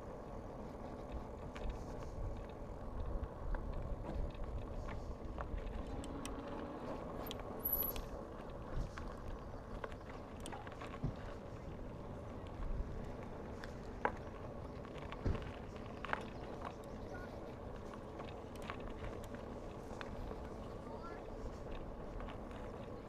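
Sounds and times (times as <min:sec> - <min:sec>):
bike clicks and rattles: 0:00.0 - 0:23.0
tyres rolling on trail: 0:00.0 - 0:23.0.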